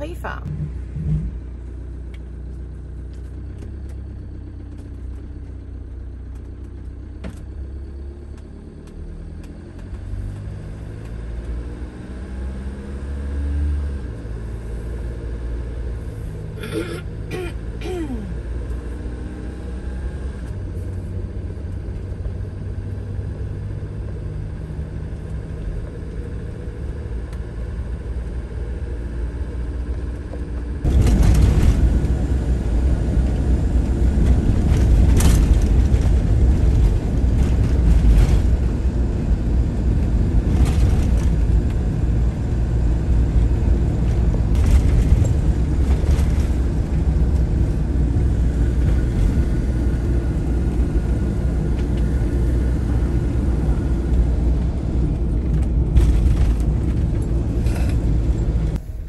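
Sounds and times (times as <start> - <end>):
engine and road rumble: 0.0 - 59.0.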